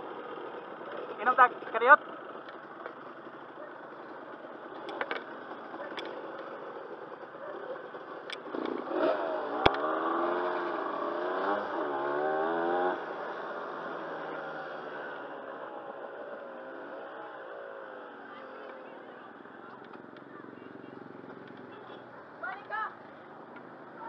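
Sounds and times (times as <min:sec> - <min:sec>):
dirt bike engine accelerating: 0:00.4 - 0:24.0.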